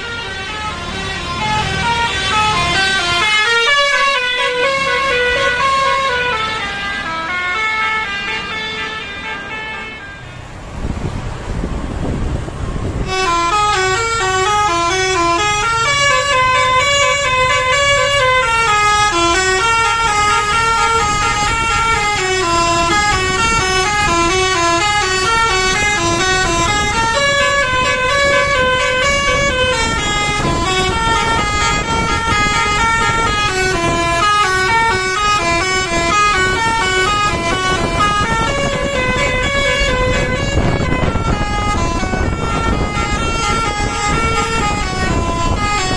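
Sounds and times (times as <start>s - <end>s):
bus horn playing a melody: 0.0s - 10.7s, 12.8s - 45.9s
engine and road noise: 0.0s - 45.9s.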